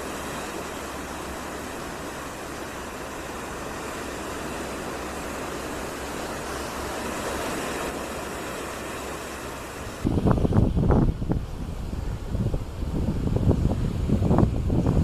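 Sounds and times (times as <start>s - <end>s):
sea rushing: 0.0s - 15.0s
wind: 0.0s - 15.0s.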